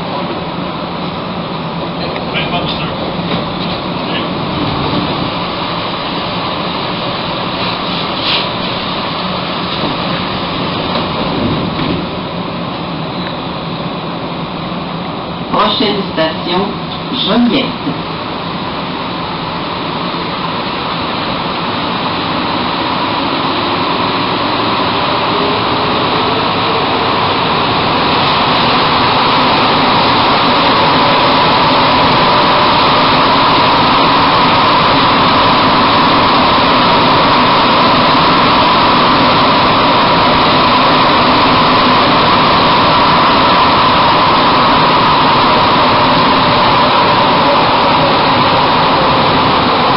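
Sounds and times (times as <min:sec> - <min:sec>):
rising motor whine: 0:00.0 - 0:15.5, 0:17.1 - 0:49.9
metro train running in tunnel: 0:00.0 - 0:49.9.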